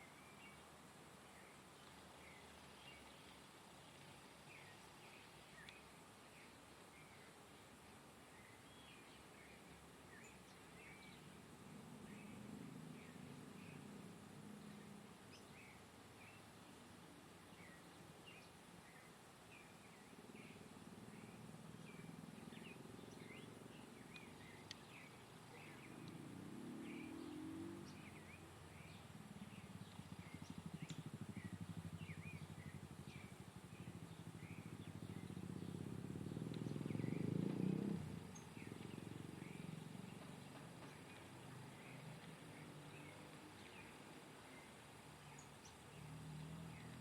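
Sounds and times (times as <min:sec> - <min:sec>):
small birds chirping: 0:01.3 - 0:07.4, 0:08.3 - 0:47.0.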